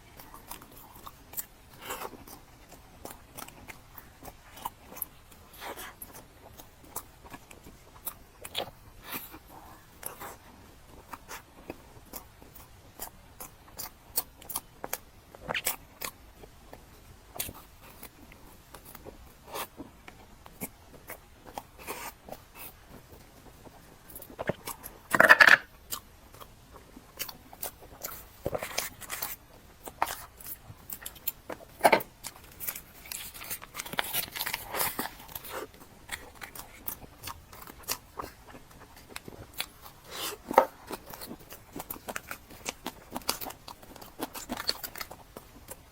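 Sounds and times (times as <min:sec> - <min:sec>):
cake chewing: 0:00.0 - 0:45.9.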